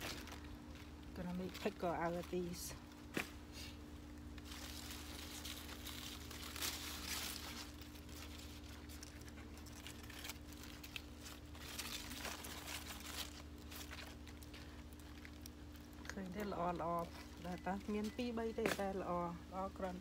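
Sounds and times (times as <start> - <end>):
leaves rustling and crinkling: 0.0 - 20.0
steady low hum: 0.0 - 20.0.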